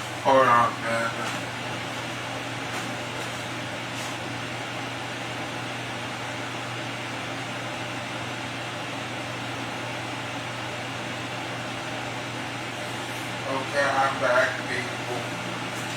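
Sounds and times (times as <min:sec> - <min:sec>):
fan whirring: 0:00.0 - 0:15.9.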